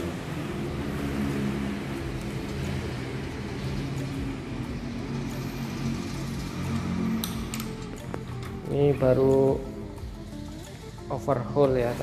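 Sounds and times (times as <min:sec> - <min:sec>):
machine droning: 0:00.0 - 0:11.1.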